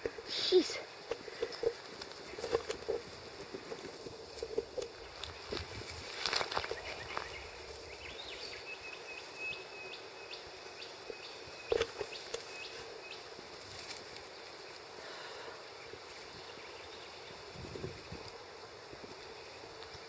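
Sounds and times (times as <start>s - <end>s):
dry grass and leaves crackling: 0.0s - 20.0s.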